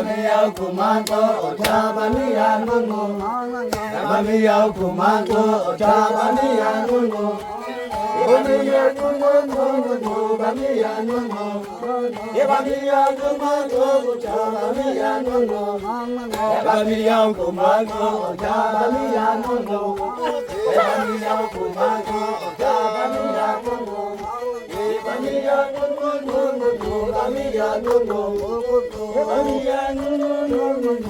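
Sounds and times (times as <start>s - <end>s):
chant-like singing: 0.0s - 31.0s.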